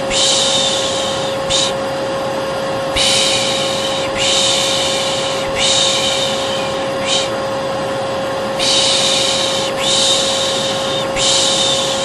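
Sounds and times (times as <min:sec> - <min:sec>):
person shushing: 0:00.0 - 0:01.8, 0:02.9 - 0:07.4, 0:08.6 - 0:12.0
vacuum cleaner running: 0:00.0 - 0:12.0.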